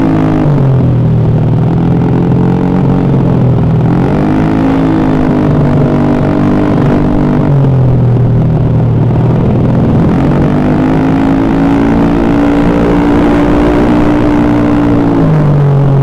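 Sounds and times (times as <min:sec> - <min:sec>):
scooter engine running: 0:00.0 - 0:16.0.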